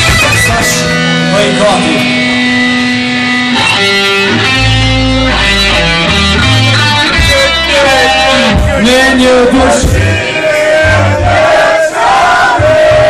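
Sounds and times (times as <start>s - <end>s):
low bass line: 0.0s - 11.7s
loud music with held chords: 0.0s - 13.0s.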